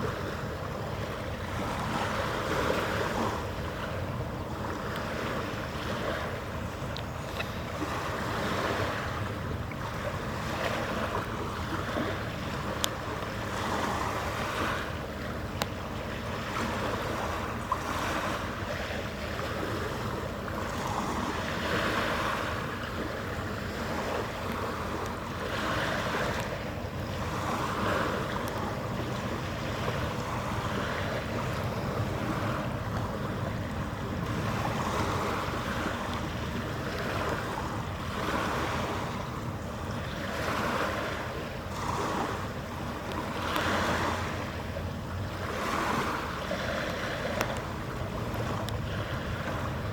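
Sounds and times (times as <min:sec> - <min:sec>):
water sloshing and lapping: 0:00.0 - 0:49.9
wind: 0:00.0 - 0:49.9.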